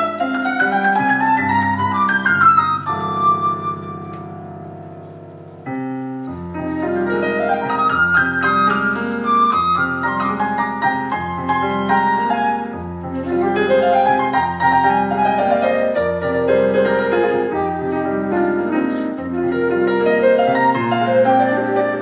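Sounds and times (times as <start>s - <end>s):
flute: 0.0s - 4.7s, 6.5s - 22.0s.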